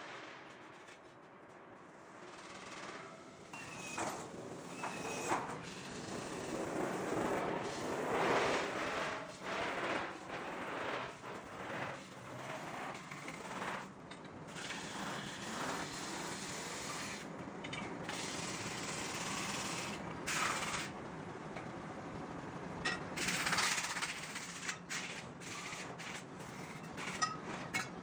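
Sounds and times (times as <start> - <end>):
forming tool scraping spinning metal: 2.3 - 20.9, 22.9 - 28.0.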